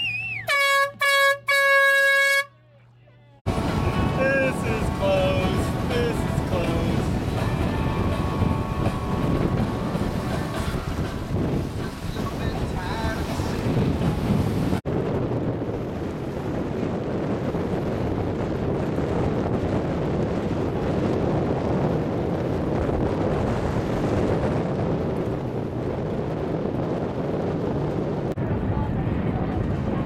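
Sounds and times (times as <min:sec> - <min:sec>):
water rushing along hull: 0:03.5 - 0:30.0
wind buffeting microphone: 0:03.5 - 0:30.0.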